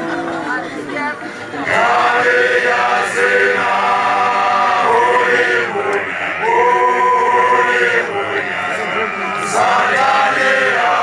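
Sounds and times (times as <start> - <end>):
men singing chant-like chorus: 1.6 - 11.0.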